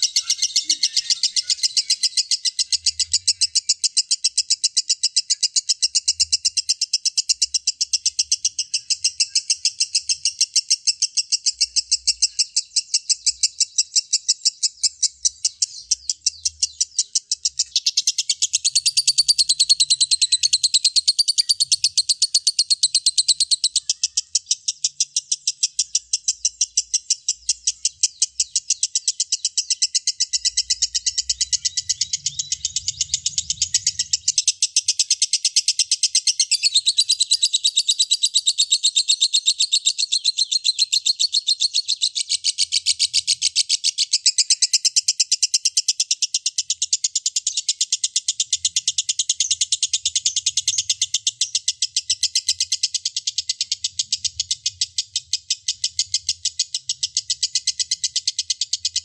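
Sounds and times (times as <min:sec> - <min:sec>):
lovebird chattering song: 0:00.0 - 0:59.0.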